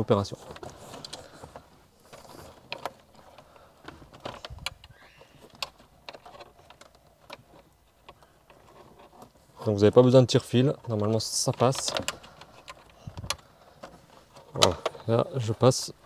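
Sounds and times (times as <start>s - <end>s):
cable rustling: 0.0s - 16.0s.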